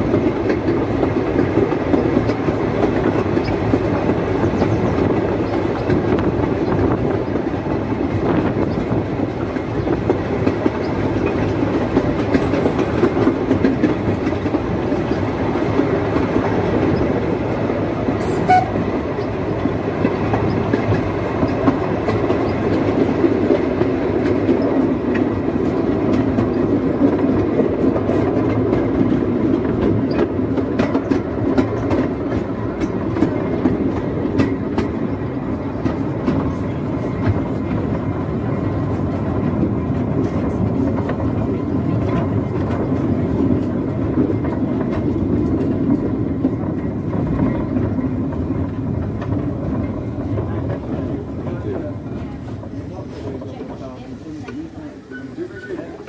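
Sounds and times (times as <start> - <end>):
steam locomotive running: 0.0 - 56.0
wheels clattering on track: 0.0 - 56.0.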